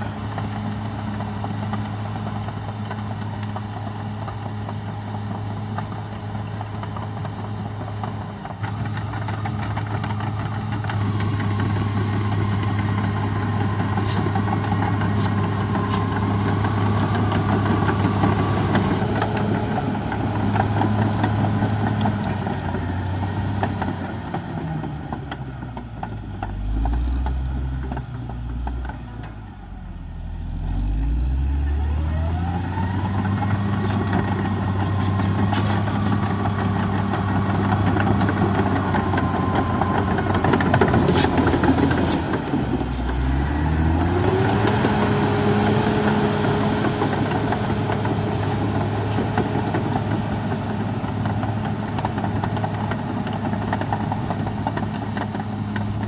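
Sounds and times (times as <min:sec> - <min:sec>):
bulldozer engine revving: 0:00.0 - 0:56.0.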